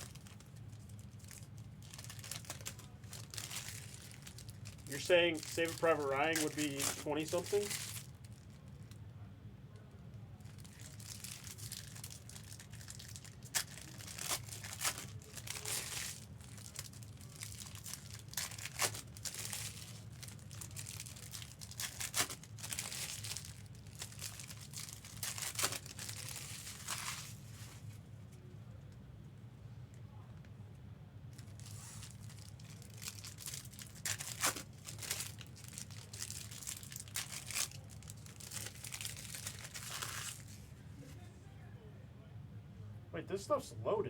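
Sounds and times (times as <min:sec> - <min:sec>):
plastic wrappers crinkling: 0:00.0 - 0:09.0, 0:10.4 - 0:28.0, 0:31.3 - 0:40.6.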